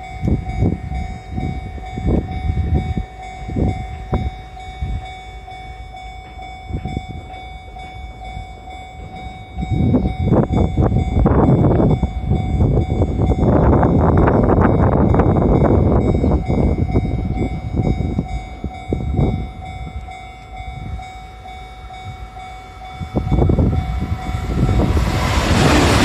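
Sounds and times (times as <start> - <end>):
electric train rumbling: 0.0 - 26.0
level crossing alarm ringing: 0.0 - 26.0.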